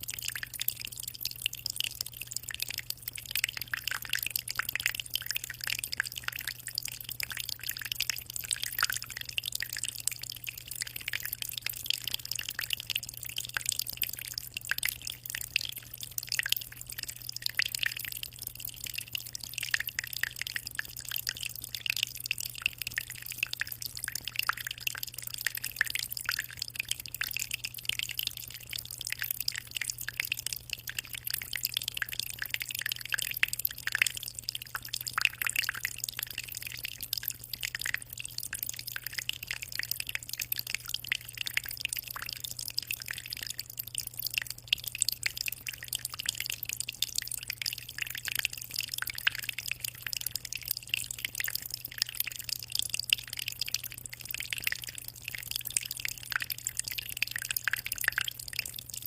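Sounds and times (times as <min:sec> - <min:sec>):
aquarium water splashing: 0:00.0 - 0:59.0.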